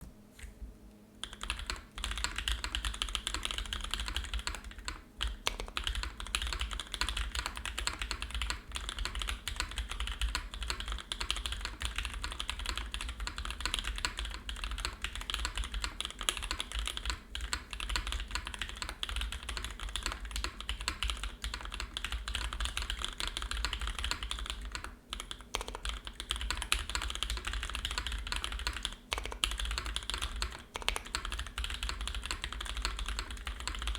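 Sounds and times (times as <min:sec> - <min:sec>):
fast mechanical keyboard typing: 0:01.2 - 0:33.9.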